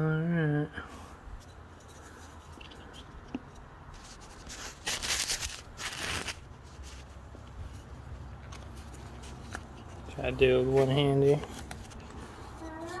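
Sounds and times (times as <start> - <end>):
rubbing and scraping: 1.3 - 13.0.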